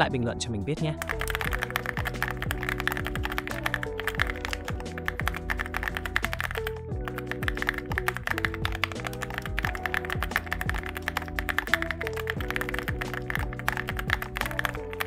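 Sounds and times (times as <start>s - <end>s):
background music: 0.0s - 15.0s
mechanical keyboard typing: 1.0s - 15.0s.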